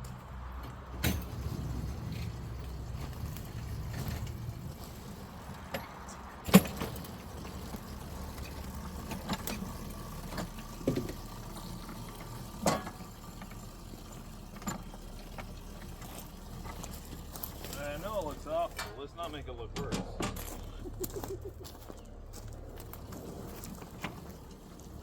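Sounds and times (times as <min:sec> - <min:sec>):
low engine rumble: 0:00.0 - 0:25.0
metal clanks and knocks: 0:00.6 - 0:20.8.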